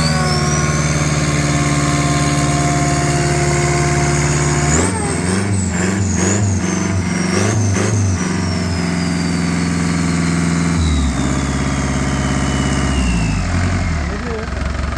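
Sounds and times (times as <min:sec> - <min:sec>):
diesel engine revving: 0:00.0 - 0:14.9.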